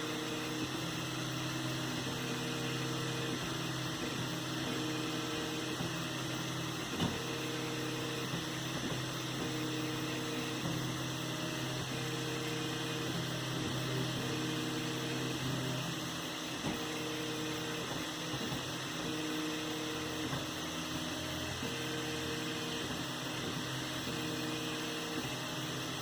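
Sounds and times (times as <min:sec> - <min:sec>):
fan hiss and hum: 0:00.0 - 0:26.0.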